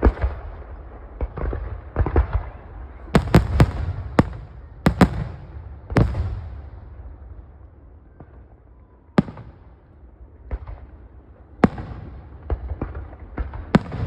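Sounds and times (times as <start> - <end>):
fireworks bangs: 0.0 - 7.4, 9.2 - 14.0.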